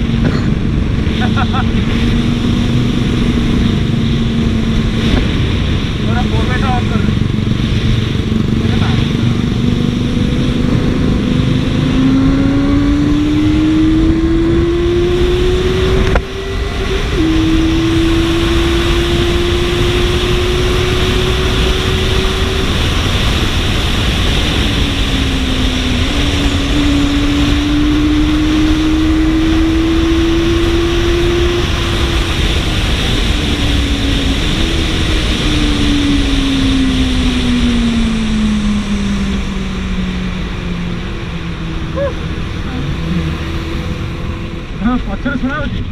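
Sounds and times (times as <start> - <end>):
motorcycle engine revving: 0.0 - 45.9
wind and road noise: 0.0 - 45.9.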